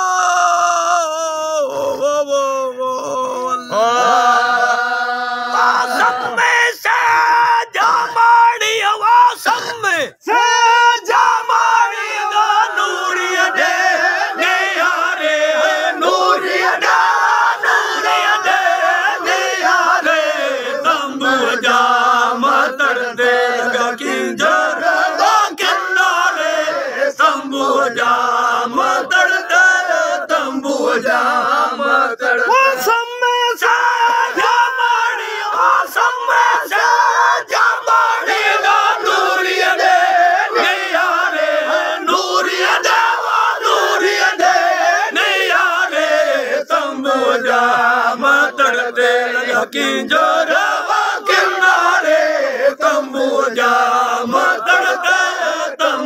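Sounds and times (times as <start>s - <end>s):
men singing in chorus: 0.0s - 8.5s, 10.3s - 56.0s.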